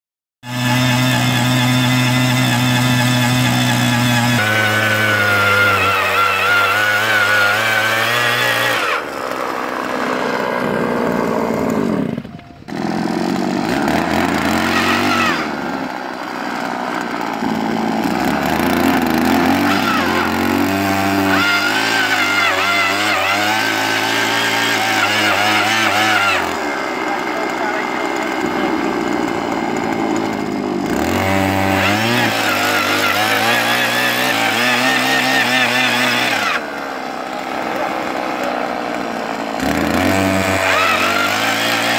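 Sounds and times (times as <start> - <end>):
earth auger engine running: 0.4 - 41.9.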